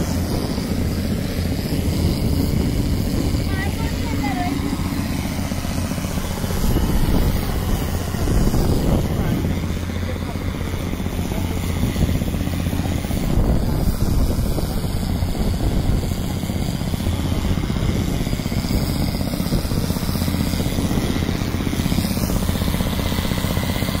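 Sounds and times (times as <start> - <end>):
drill rig and air compressor running: 0.0 - 24.0.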